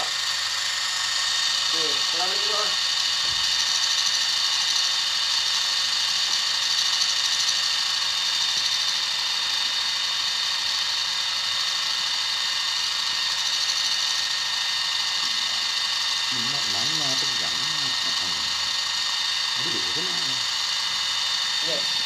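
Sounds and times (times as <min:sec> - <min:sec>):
toy helicopter motors whirring: 0:00.0 - 0:22.0.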